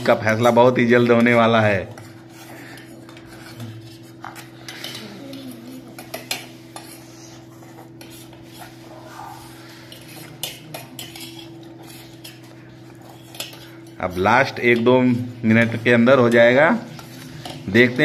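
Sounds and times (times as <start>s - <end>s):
spoons scraping steel plates: 0.0s - 18.0s.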